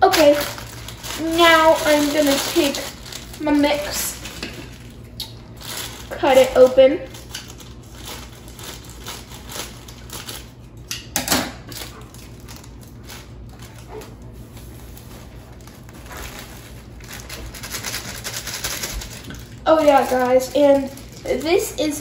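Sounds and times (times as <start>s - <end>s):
plastic pouch crinkling: 0.0s - 10.8s, 11.7s - 22.0s.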